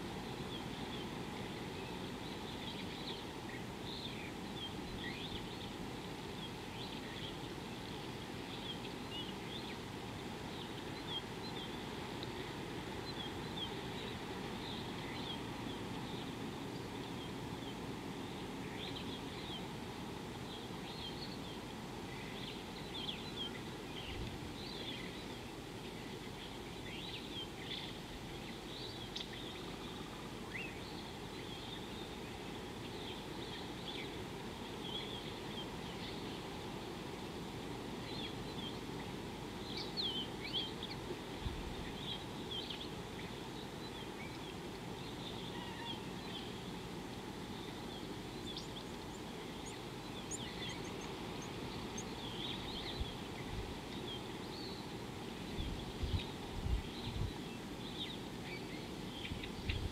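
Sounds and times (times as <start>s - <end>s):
steady low background noise: 0.0s - 59.9s
wild birds chirping: 0.0s - 59.9s.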